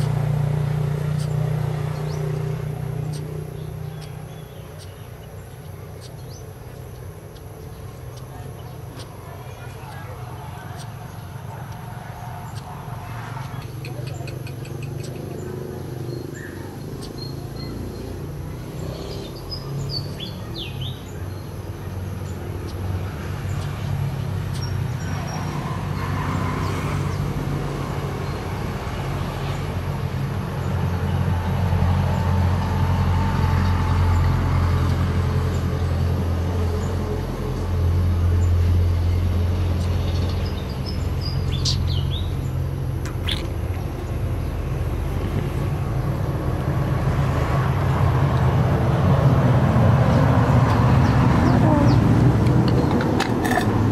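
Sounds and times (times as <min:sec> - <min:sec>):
low engine-like hum: 0:00.0 - 0:53.9.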